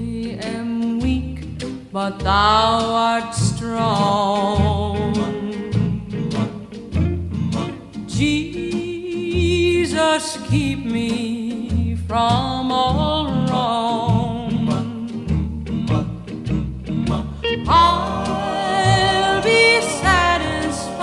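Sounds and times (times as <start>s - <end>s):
bass line: 0.0s - 11.1s, 11.7s - 21.0s
person singing: 2.0s - 21.0s.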